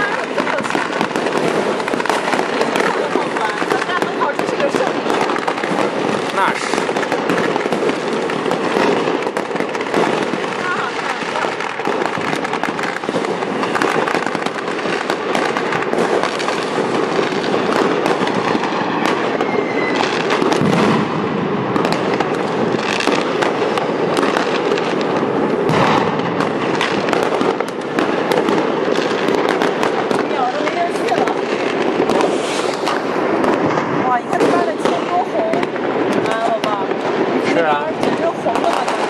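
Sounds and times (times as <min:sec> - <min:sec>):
fireworks crackling and banging: 0:00.0 - 0:39.0.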